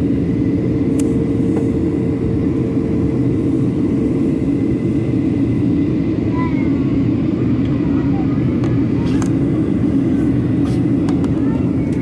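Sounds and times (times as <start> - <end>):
airplane cabin engine drone: 0.0 - 12.0
faint steady hum: 0.0 - 12.0.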